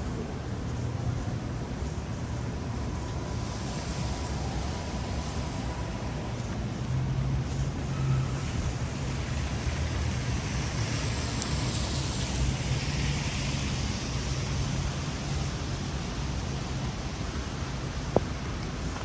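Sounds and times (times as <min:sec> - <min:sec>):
traffic hum: 0:00.0 - 0:19.0
tyres hissing on wet pavement: 0:00.0 - 0:19.0.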